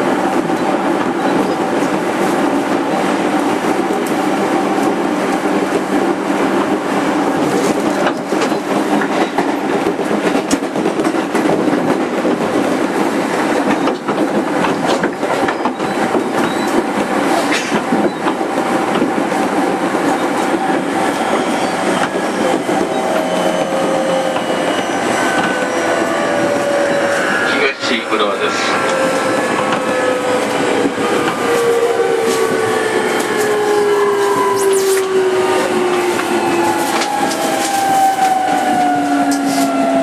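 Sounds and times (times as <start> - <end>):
train wheels rolling on rails: 0.0 - 40.0
rail joint clicks: 3.8 - 5.9, 6.6 - 40.0.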